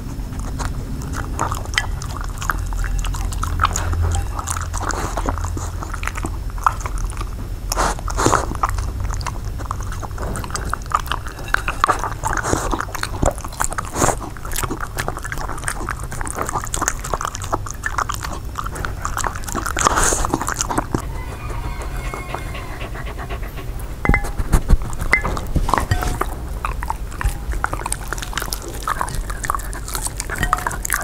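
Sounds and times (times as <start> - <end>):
dog chewing and licking: 0.0 - 31.0
low steady hum: 0.0 - 31.0.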